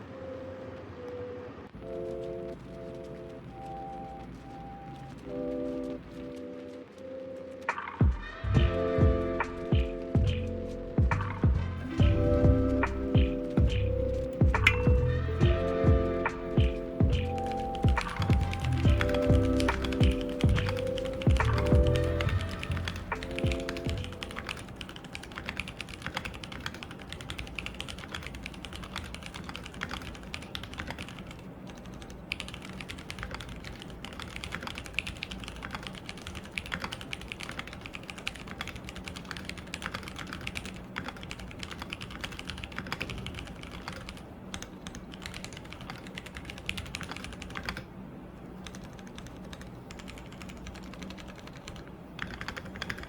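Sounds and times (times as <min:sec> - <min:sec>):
mechanical keyboard typing: 0:01.8 - 0:53.0.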